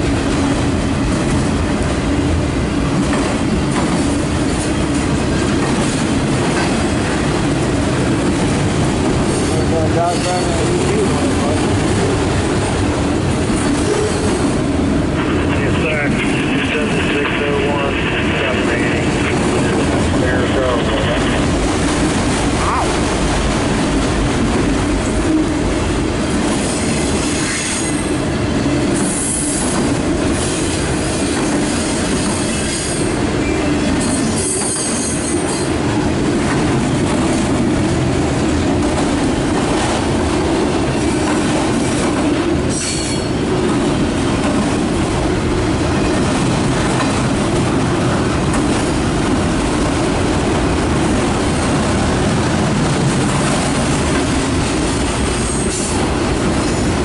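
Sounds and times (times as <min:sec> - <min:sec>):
freight cars rumbling on rails: 0:00.0 - 0:57.0.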